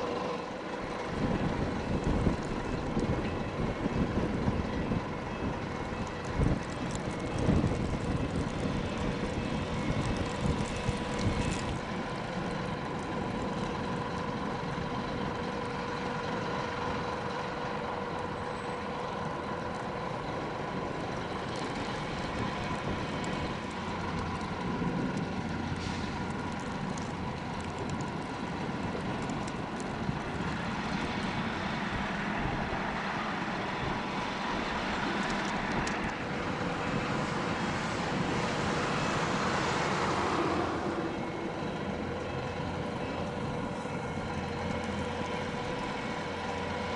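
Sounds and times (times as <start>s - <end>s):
ship engine drone: 0.0s - 46.9s.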